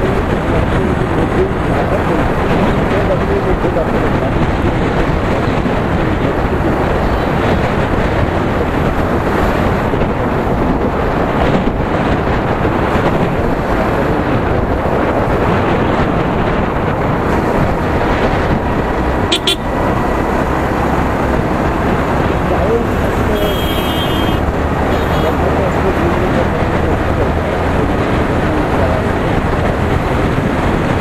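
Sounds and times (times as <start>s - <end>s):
motorcycle road noise: 0.0s - 31.0s
wind rush over microphone: 0.0s - 31.0s.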